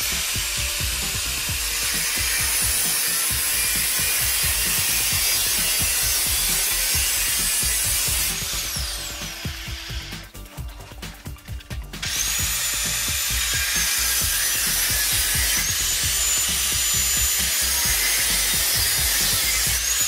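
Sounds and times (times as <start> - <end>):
angle grinder cutting pipe: 0.0 - 20.0.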